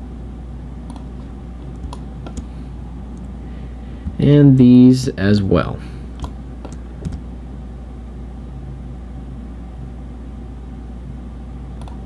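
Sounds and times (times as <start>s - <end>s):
low background hum with hiss: 0.0s - 12.0s.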